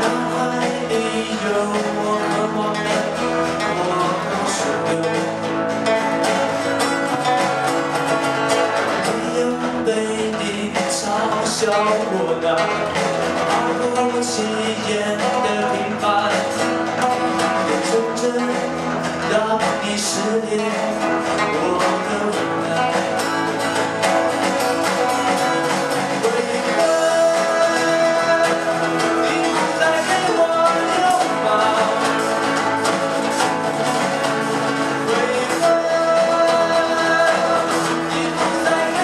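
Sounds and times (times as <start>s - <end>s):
person singing: 0.0s - 6.2s, 8.9s - 23.9s, 25.0s - 39.0s
band music with guitar: 0.0s - 39.0s.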